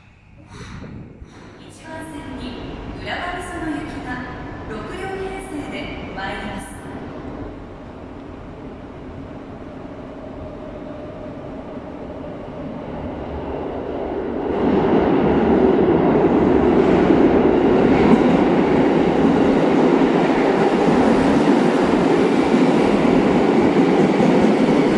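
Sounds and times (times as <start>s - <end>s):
electric train rumbling: 0.0s - 24.9s.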